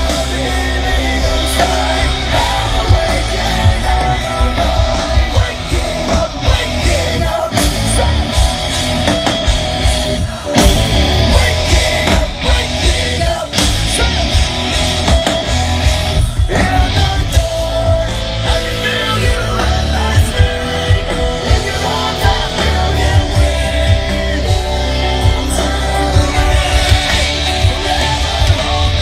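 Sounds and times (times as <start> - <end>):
bass guitar: 0.0 - 29.0
drums: 0.0 - 29.0
electric guitars: 0.0 - 29.0
person singing: 0.0 - 29.0.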